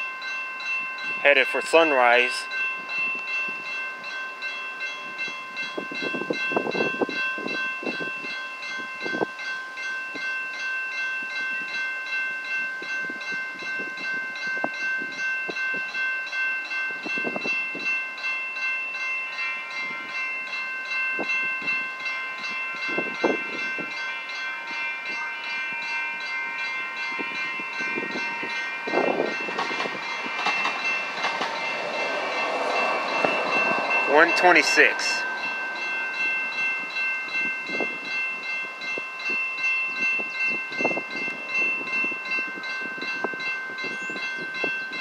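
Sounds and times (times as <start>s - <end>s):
crossing warning bells ringing: 0.0s - 45.0s
second bell tone: 0.0s - 45.0s.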